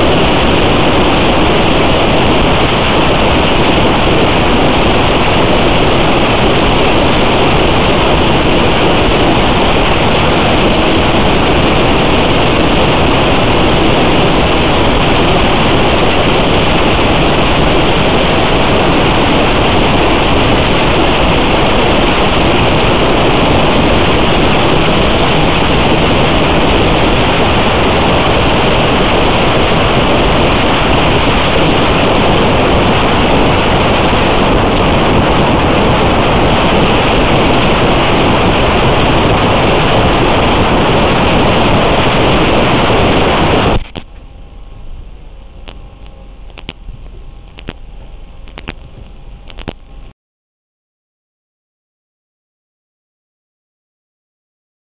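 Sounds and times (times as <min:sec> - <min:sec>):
loud radio static hiss: 0:00.0 - 0:50.1.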